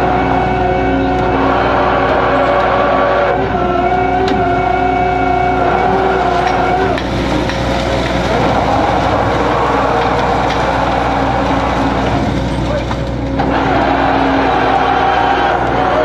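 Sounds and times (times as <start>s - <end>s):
deck machinery running: 0.0s - 16.0s
low engine drone: 0.0s - 16.0s
machine whine: 0.0s - 16.0s.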